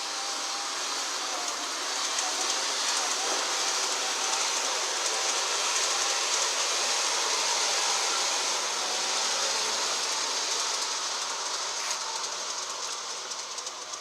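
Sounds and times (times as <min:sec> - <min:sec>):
model locomotive motor whirring: 0:00.0 - 0:14.0.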